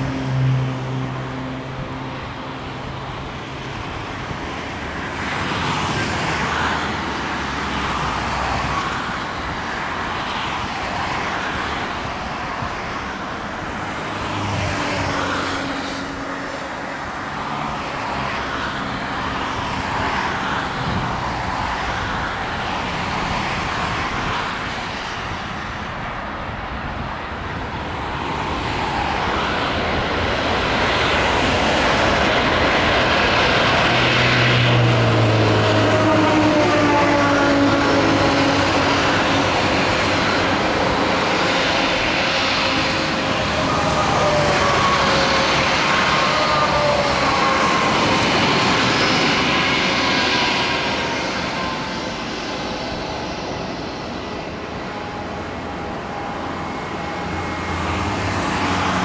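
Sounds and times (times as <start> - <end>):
jet airliner landing: 0.0 - 59.0.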